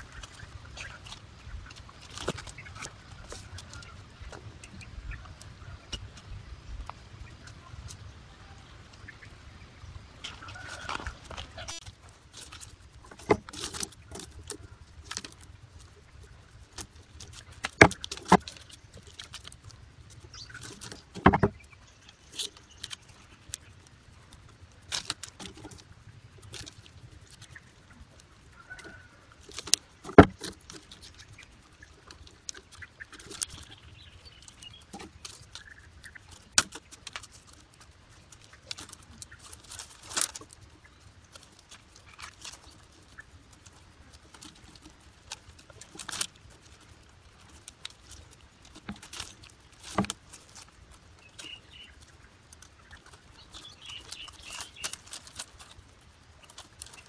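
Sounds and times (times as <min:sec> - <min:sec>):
bamboo strips clicking and rattling: 0:00.0 - 0:09.2, 0:10.1 - 0:57.0.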